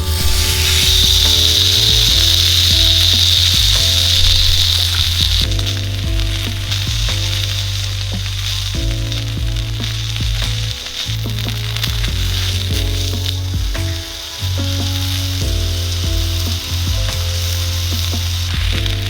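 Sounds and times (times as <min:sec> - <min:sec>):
background music of low notes: 0:00.0 - 0:19.0
food sizzling in a pan: 0:00.0 - 0:19.0.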